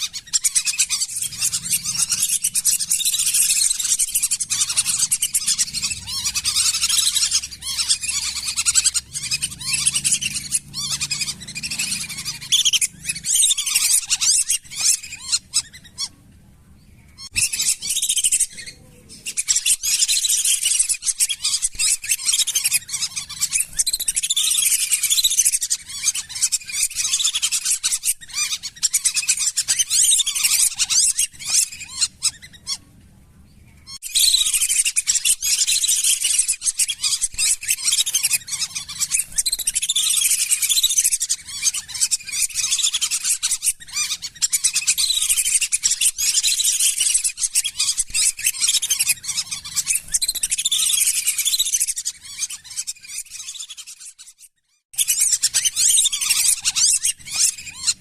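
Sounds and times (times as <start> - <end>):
ducks whistling calls: 0.0 - 16.3, 17.0 - 32.9, 33.8 - 58.0.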